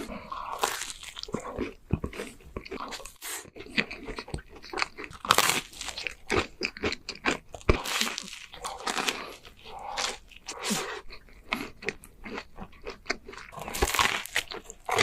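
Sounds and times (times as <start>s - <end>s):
crunching and chewing waffle: 0.0s - 15.0s.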